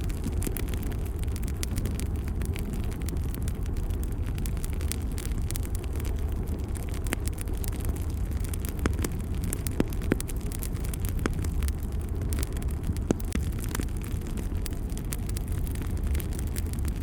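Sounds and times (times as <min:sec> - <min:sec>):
fire crackling and popping: 0:00.0 - 0:17.0
fire roaring in fireplace: 0:00.0 - 0:17.0.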